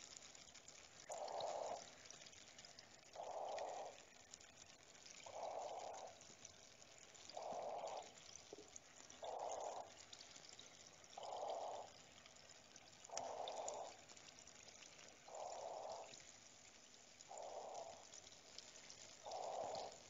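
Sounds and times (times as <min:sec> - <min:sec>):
water dripping and trickling: 0:00.0 - 0:20.0.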